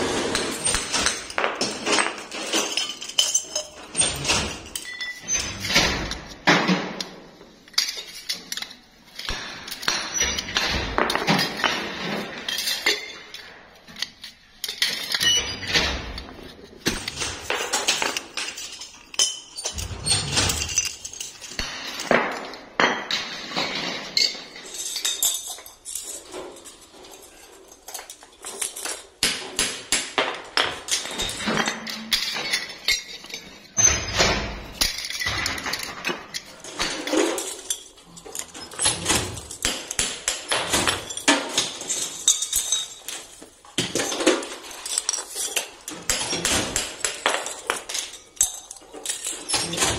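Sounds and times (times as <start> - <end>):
metal parts clinking and clanking: 0.0 - 49.9.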